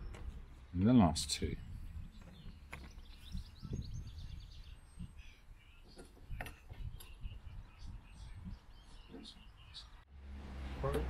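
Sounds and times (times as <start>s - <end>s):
small birds chirping: 0.0s - 10.1s.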